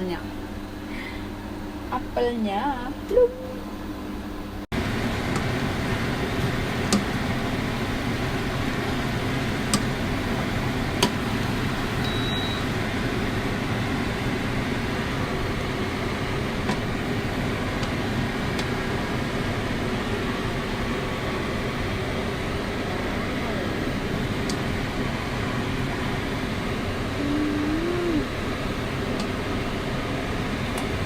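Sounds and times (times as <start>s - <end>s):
fan whooshing hum: 0.0s - 31.0s.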